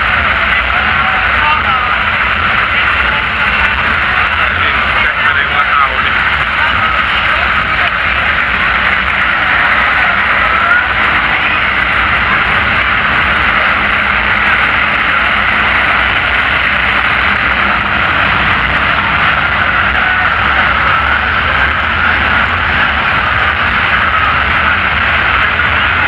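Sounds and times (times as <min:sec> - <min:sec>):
truck engines droning: 0:00.0 - 0:26.0.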